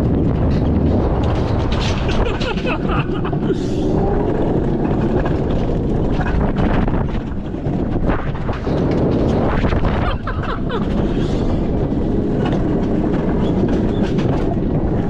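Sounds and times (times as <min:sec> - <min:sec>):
coaster wheels rumbling on rail: 0:00.0 - 0:15.0
wind buffeting microphone: 0:00.0 - 0:15.0.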